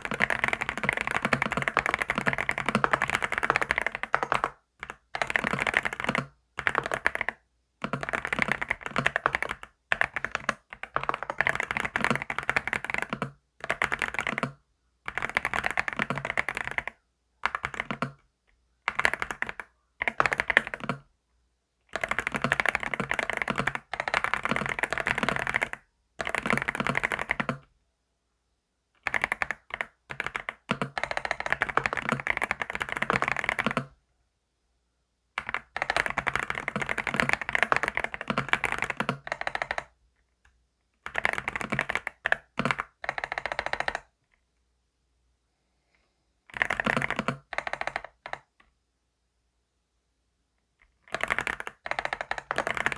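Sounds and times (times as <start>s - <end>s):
computer keyboard typing: 0.0s - 18.3s, 18.9s - 21.1s, 21.9s - 27.7s, 29.0s - 34.0s, 35.4s - 44.1s, 46.5s - 48.7s, 50.8s - 52.9s.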